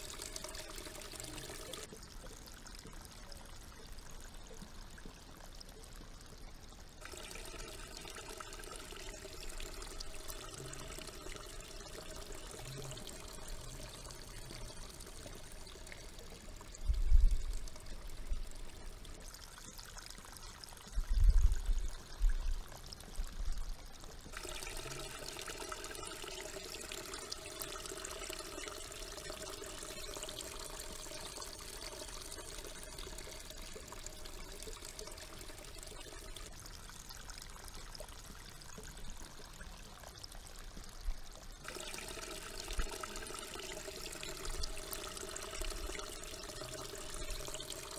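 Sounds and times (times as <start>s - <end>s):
water pouring and trickling: 0.0s - 47.9s.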